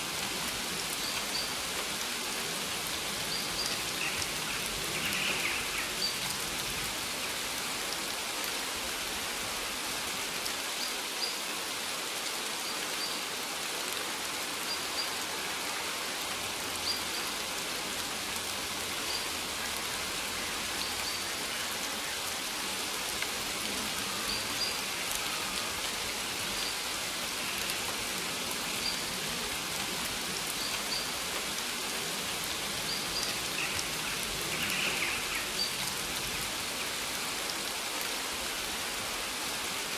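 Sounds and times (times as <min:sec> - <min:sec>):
rain hissing on leaves: 0:00.0 - 0:39.9.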